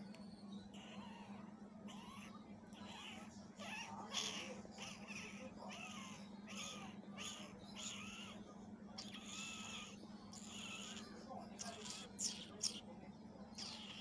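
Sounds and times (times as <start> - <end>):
faint steady hum: 0.0 - 14.0
cat mewing: 0.8 - 8.4, 9.0 - 12.8, 13.5 - 14.0.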